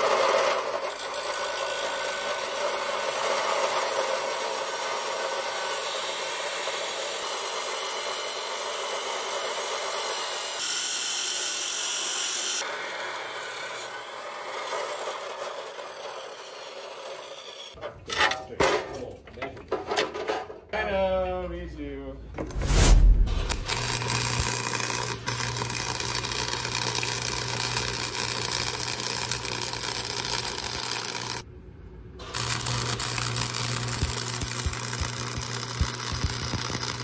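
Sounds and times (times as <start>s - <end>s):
power tool cutting metal pipe: 0.0s - 17.8s, 23.4s - 31.5s, 32.2s - 37.0s.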